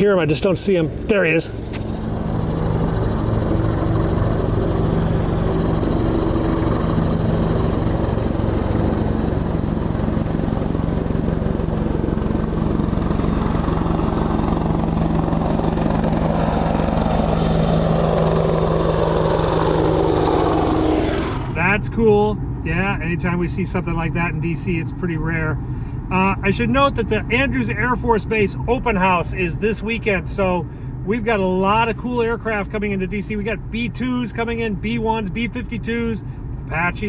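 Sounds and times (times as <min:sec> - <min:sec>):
helicopter flying past: 0:00.0 - 0:37.0.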